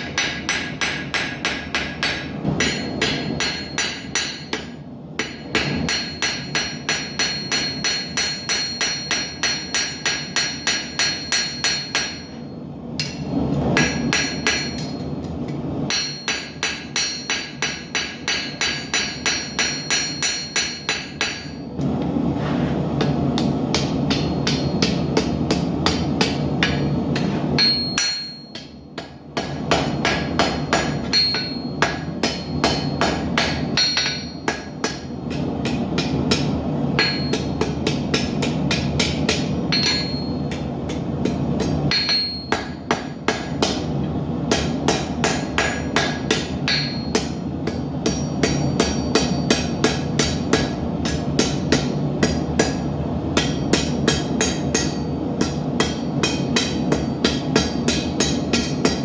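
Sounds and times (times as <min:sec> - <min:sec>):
hammer striking steel on anvil: 0:00.0 - 0:21.9, 0:22.9 - 0:59.0.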